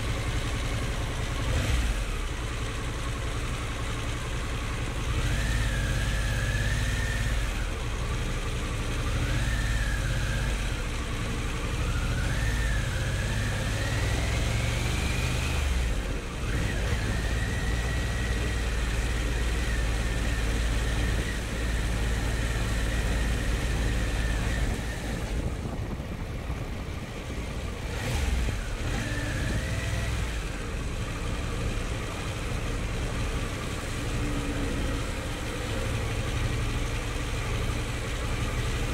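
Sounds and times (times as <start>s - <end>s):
engine whine: 0.0s - 38.9s
motorcycle engine rumbling: 0.0s - 38.9s.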